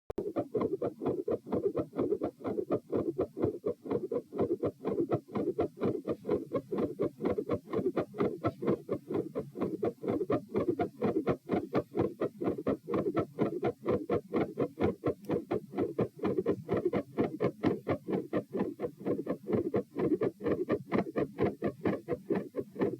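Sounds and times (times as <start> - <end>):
fast heartbeat thumps: 0.2 - 22.9.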